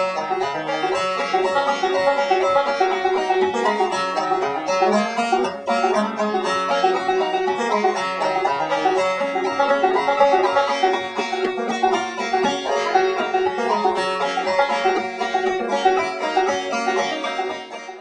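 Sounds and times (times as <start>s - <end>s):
banjo tune picked quickly: 0.0s - 18.0s.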